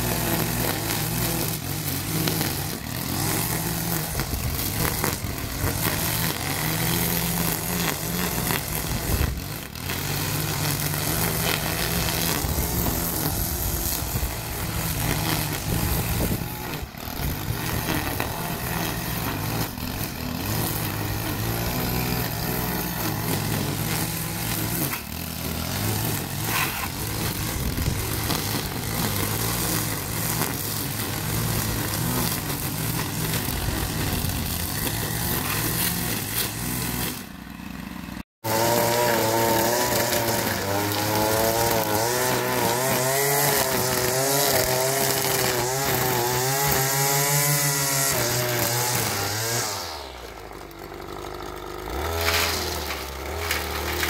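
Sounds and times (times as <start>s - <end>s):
string trimmer engine cutting grass: 0.0s - 54.0s.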